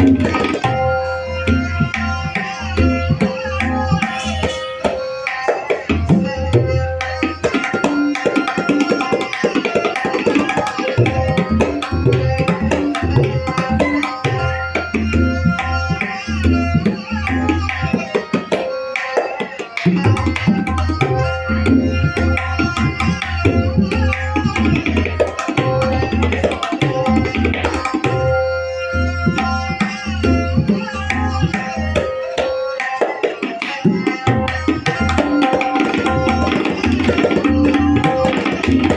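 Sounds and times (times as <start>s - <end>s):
tabla right-hand drum ringing: 0.0s - 38.9s.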